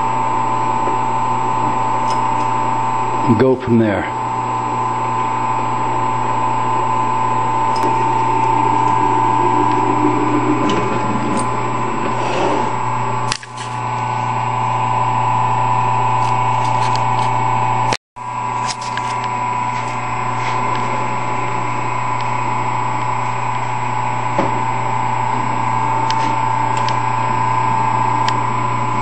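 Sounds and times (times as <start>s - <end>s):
wood lathe motor humming: 0.0s - 29.0s.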